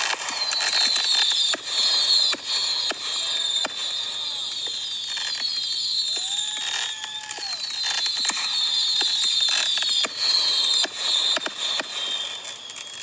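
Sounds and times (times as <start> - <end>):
firework bangs: 0.0 - 13.0
spark fountains hissing and crackling: 0.0 - 13.0.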